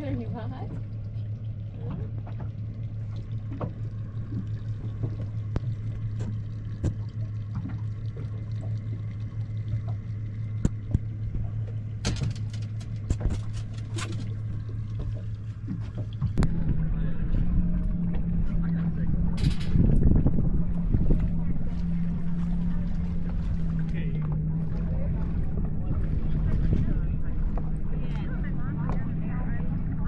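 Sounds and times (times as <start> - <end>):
low motor hum: 0.0 - 30.0
water sloshing and splashing: 0.0 - 30.0.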